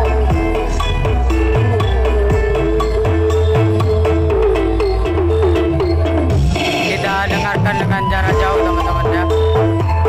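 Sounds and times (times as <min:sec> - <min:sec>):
loud bass-heavy music on speakers: 0:00.0 - 0:10.0.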